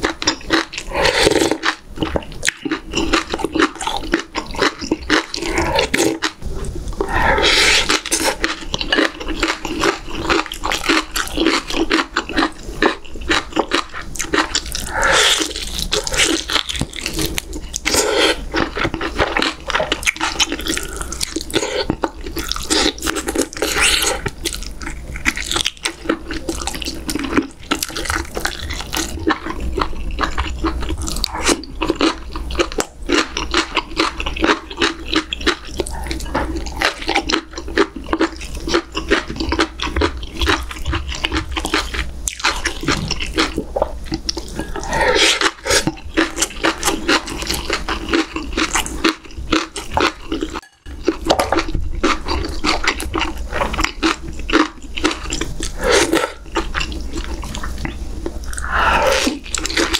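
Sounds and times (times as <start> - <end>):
person chewing wetly: 0.0 - 59.9.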